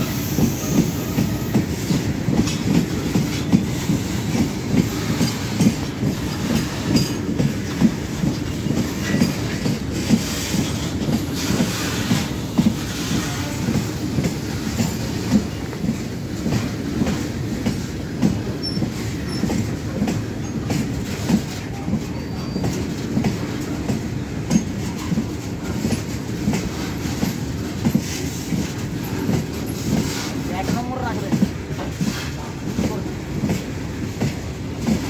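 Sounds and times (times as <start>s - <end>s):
steel wheels rumbling on rail: 0.0s - 35.0s.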